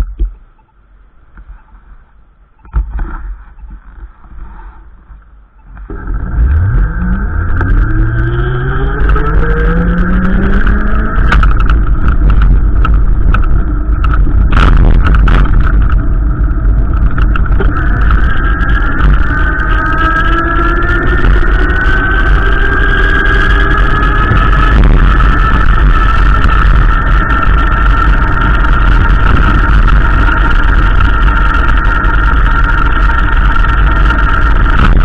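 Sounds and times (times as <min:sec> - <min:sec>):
wind rumble on microphone: 0:00.0 - 0:35.0
scattered clicks: 0:05.6 - 0:35.0
car engine accelerating: 0:05.8 - 0:35.0.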